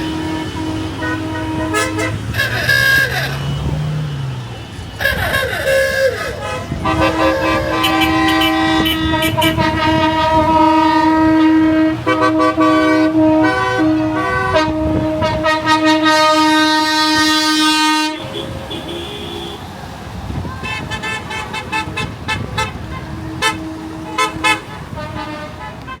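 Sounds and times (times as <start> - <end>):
lorry horns blasting: 0.0 - 26.0.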